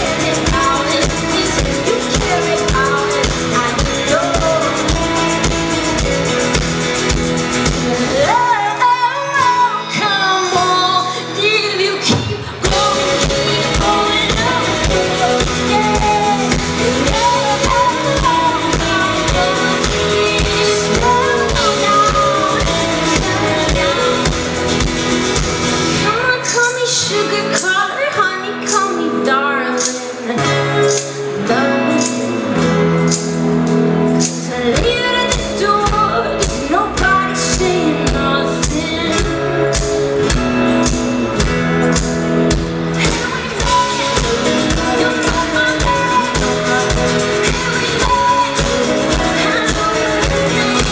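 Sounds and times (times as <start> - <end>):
pop-rock band playing: 0.0 - 50.9
woman singing: 0.0 - 50.9.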